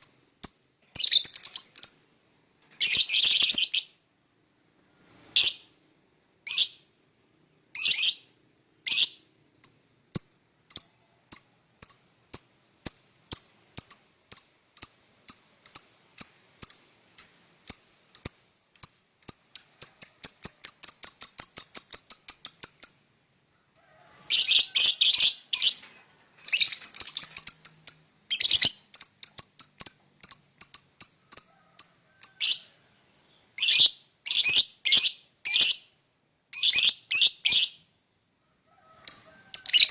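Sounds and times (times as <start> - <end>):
lovebird chirping: 0.0 - 4.1, 5.2 - 5.8, 6.4 - 6.9, 7.7 - 23.1, 24.3 - 37.9, 39.0 - 39.9.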